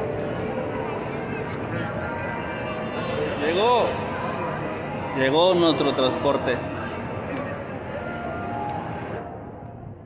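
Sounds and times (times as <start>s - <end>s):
indistinct crowd noise: 0.0s - 10.0s.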